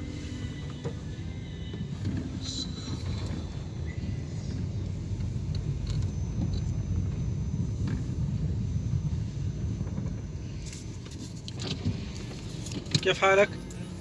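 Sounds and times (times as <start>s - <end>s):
car engine rumble: 0.0s - 14.0s
road noise inside car: 0.0s - 14.0s.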